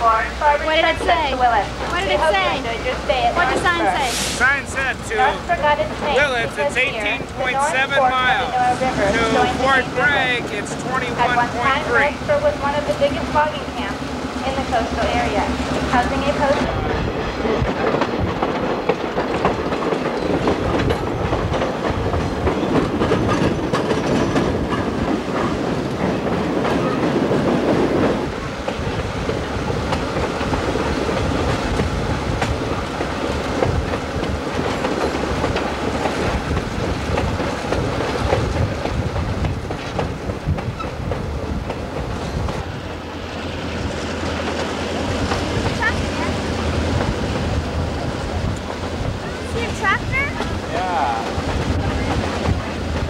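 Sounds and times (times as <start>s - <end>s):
train car rumbling: 0.0s - 53.0s
wheels clacking over rail joints: 0.0s - 53.0s.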